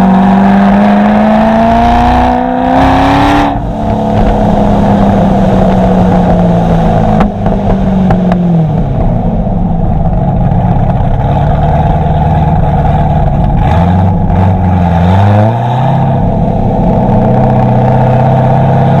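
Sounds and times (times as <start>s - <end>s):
car exhaust drone while driving: 0.0s - 19.0s.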